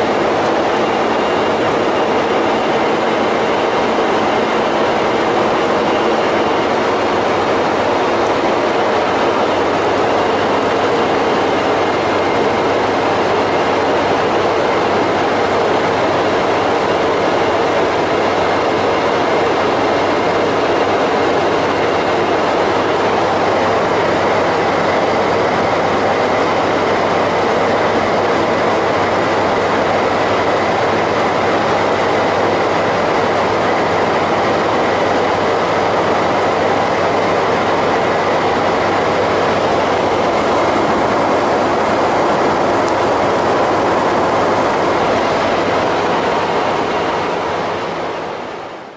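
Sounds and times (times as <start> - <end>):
airflow and engine rush: 0.0 - 48.9.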